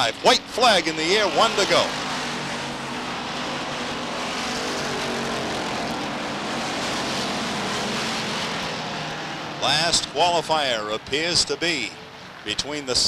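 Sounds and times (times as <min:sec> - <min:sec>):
racing car engines roaring: 0:00.0 - 0:13.0.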